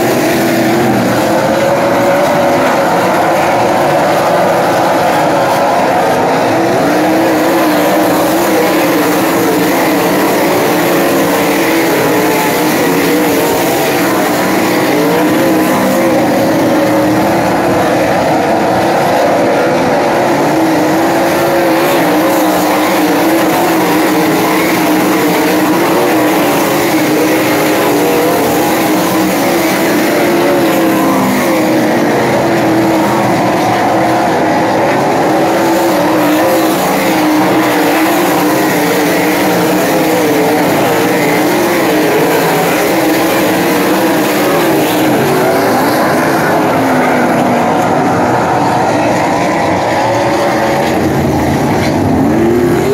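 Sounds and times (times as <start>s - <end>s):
racing car engines roaring: 0.0s - 52.9s.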